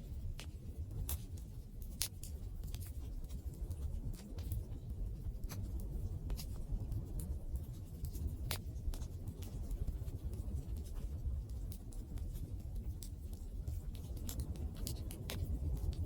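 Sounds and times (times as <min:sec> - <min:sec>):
wood crackling and popping: 0:00.1 - 0:16.0.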